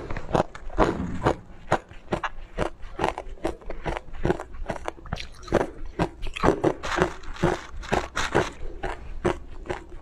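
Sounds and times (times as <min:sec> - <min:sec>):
crunching ice in the mouth: 0:00.0 - 0:10.0.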